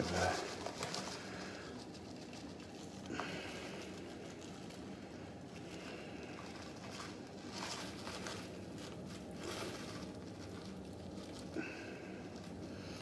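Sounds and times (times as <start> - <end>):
plastic packet rustling: 0.0 - 13.0.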